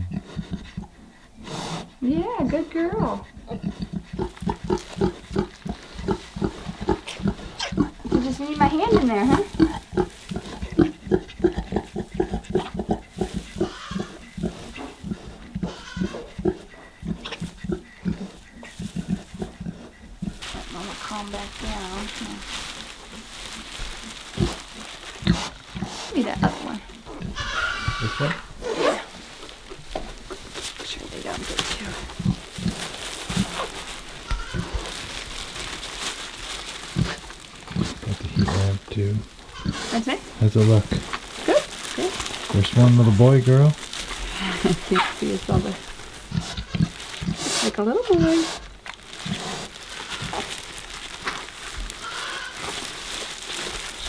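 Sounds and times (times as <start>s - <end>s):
pig grunting: 0.0s - 35.7s, 36.8s - 50.6s
rustling and crackling handling noise: 4.0s - 54.0s.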